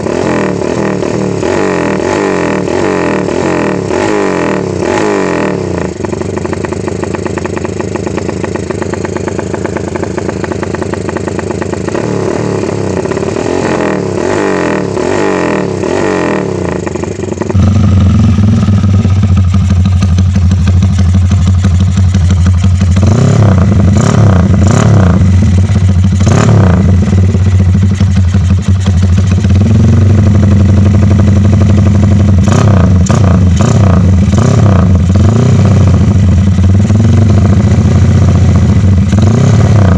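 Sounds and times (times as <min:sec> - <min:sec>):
motorcycle deep exhaust revving: 0:00.0 - 0:39.9
motorcycle revving in blips: 0:00.0 - 0:39.9.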